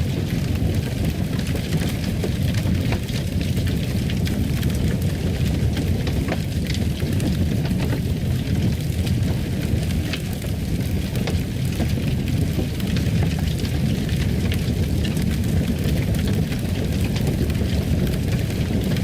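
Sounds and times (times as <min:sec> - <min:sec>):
fireplace fire burning: 0:00.0 - 0:19.0.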